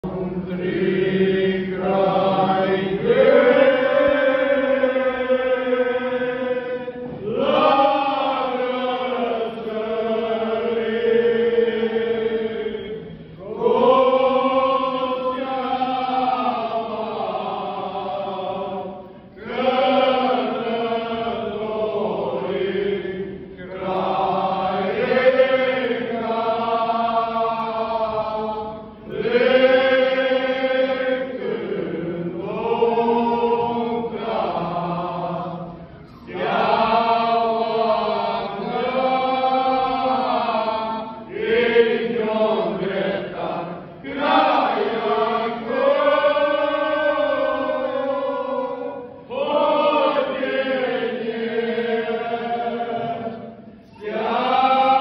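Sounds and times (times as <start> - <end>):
men singing a carol together: 0.0 - 55.0.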